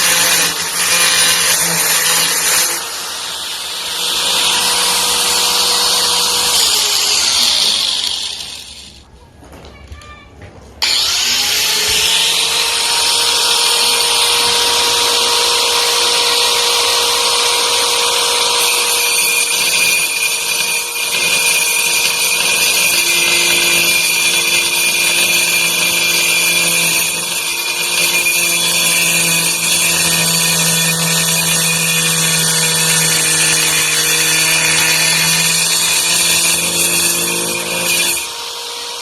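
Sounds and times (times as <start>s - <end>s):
angle grinder whining: 0.0s - 9.0s, 10.8s - 39.0s.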